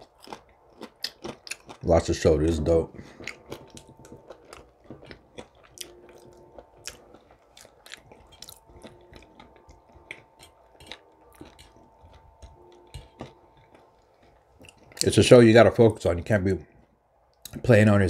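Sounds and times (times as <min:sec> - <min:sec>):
person chewing food: 0:00.0 - 0:15.1.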